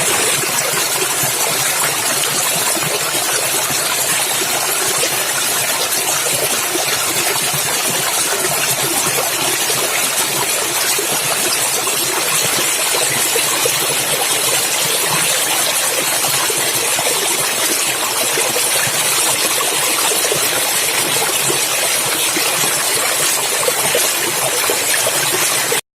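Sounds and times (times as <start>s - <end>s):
stream water splashing over rocks: 0.0s - 25.8s.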